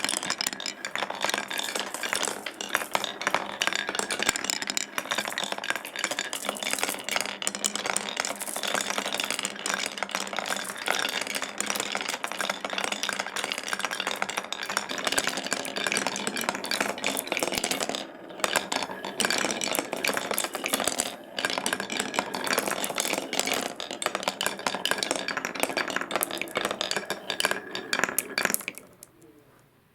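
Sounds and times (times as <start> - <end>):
marbles rattling down wooden track: 0.0 - 29.4.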